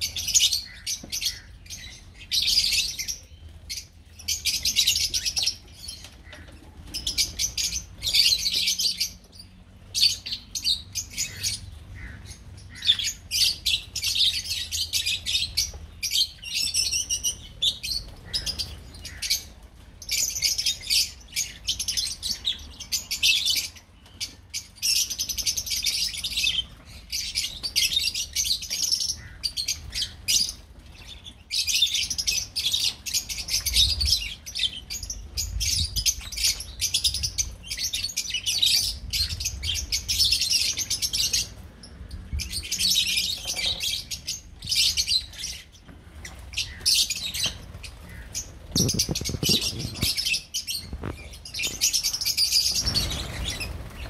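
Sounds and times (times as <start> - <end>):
birds chattering: 0.0 - 54.0.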